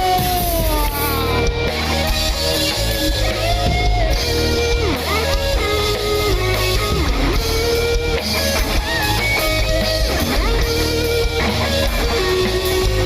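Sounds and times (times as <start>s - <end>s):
bending electric guitar line: 0.0s - 13.0s
rock band playing: 0.0s - 13.0s.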